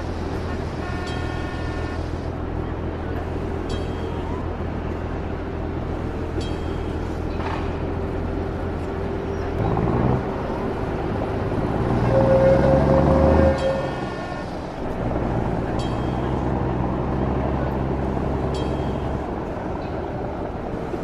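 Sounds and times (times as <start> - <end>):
loud engine: 0.0 - 21.0
traffic engines rumbling: 0.0 - 21.0.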